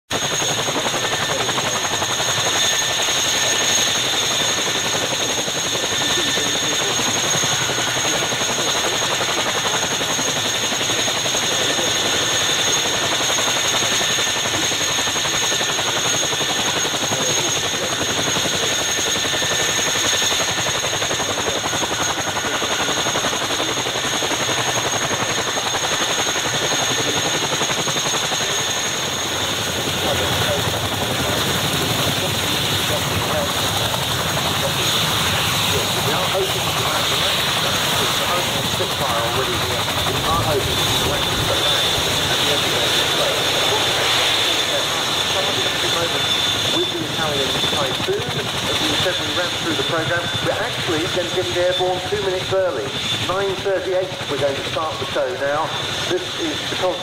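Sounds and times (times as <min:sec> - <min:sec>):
helicopter rotor and engine rush: 0:00.1 - 0:57.0
high turbine whine: 0:00.1 - 0:57.0.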